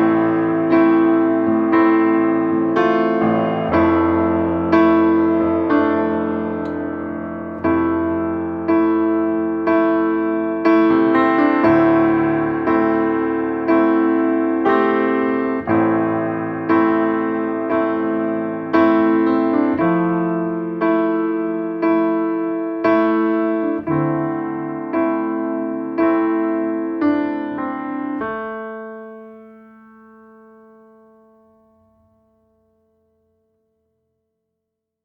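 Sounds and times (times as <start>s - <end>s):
slow piano chords: 0.0s - 33.0s.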